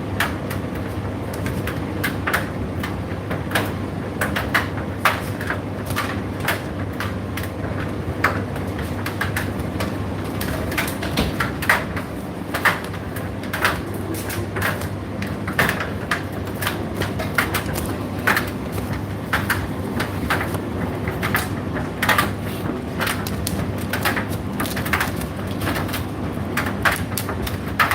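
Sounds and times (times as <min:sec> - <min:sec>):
tumble dryer motor hum: 0:00.0 - 0:27.9.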